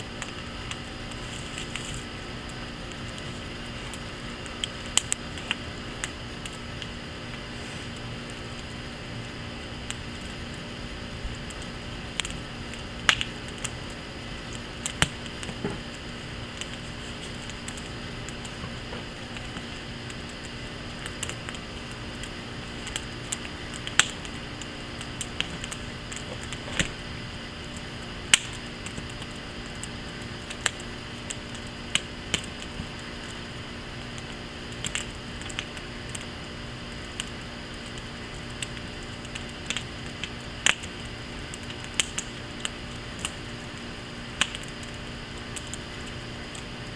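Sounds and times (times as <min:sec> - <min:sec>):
fire popping and snapping: 0:00.0 - 0:46.9
wood fire crackling: 0:00.0 - 0:46.9.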